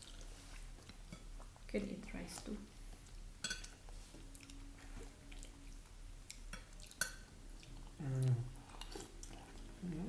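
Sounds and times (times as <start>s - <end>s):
chewing and wet mouth sounds: 0.0s - 10.0s.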